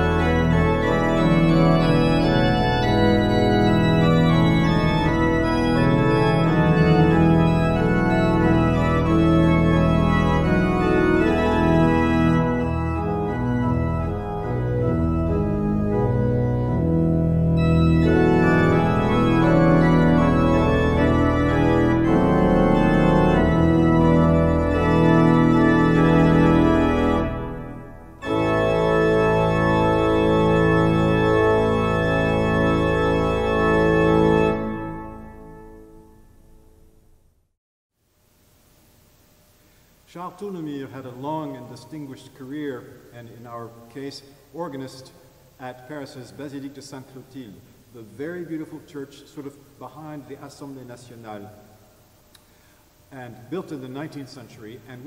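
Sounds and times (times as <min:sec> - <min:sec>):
pipe organ playing chords: 0:00.0 - 0:37.1, 0:39.5 - 0:55.0.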